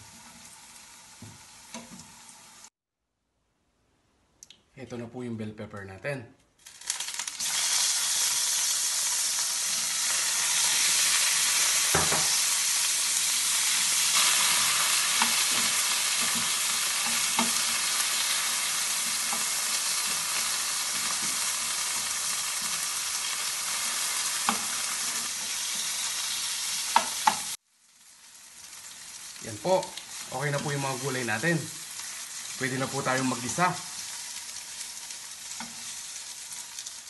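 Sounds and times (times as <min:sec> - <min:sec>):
peppers sizzling in hot oil: 0:00.0 - 0:02.7, 0:06.6 - 0:37.0.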